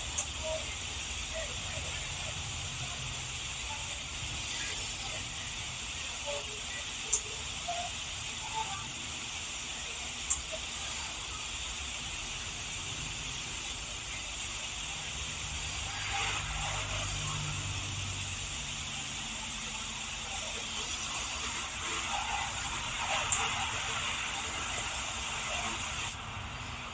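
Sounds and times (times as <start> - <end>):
recording hiss: 0.0 - 26.9.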